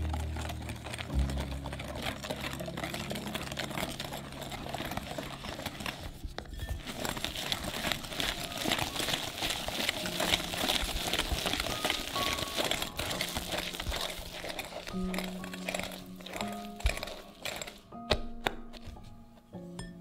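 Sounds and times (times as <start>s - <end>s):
whisk scraping glass bowl: 0.0s - 19.0s.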